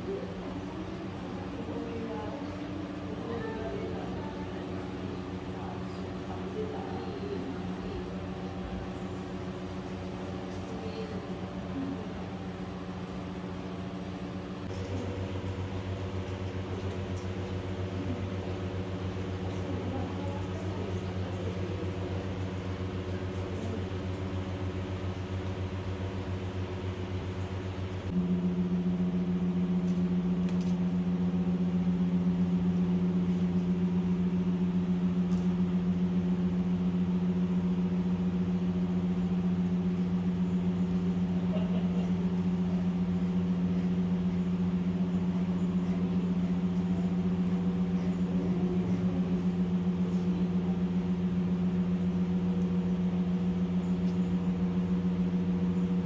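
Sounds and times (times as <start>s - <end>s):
low hum of held tones: 0.0s - 56.0s.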